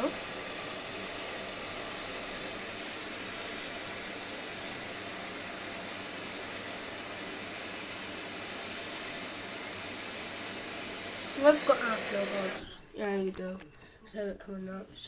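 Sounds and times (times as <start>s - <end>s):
washing machine filling with water: 0.0s - 12.8s.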